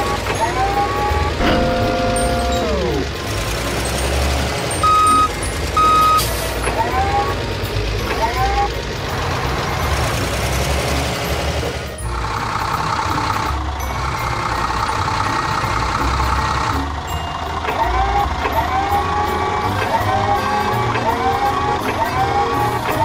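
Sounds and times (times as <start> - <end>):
low diesel engine drone: 0.0 - 23.0.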